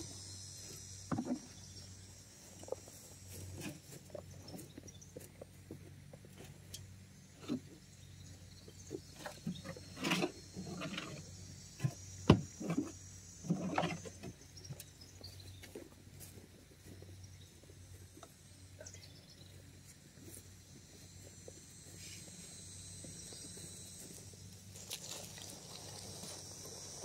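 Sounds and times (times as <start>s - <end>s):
high drone of insects: 0.0s - 27.0s.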